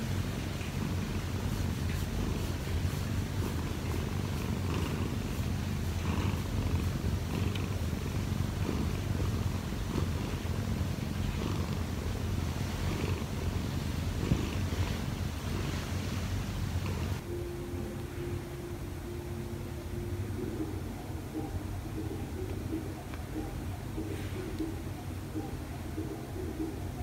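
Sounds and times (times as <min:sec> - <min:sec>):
cat purring: 0:00.0 - 0:17.4, 0:19.3 - 0:27.0.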